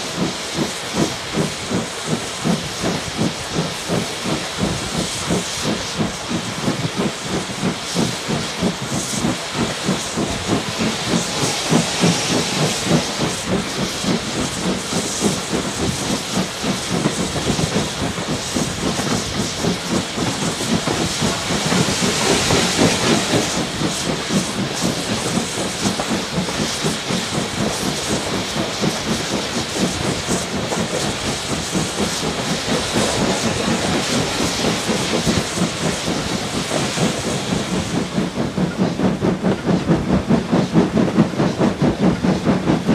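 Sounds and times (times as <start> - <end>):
hiss of steam: 0.0 - 42.9
steam locomotive exhaust beats: 0.0 - 42.9.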